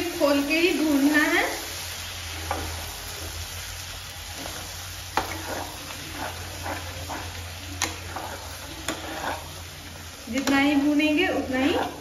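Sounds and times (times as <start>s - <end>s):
food sizzling in a frying pan: 0.0s - 12.0s
spatula scraping a pan: 0.1s - 12.0s.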